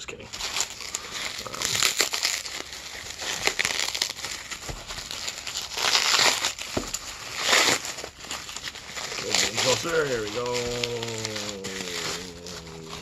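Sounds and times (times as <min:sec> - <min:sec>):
packing material crinkling: 0:00.0 - 0:13.0.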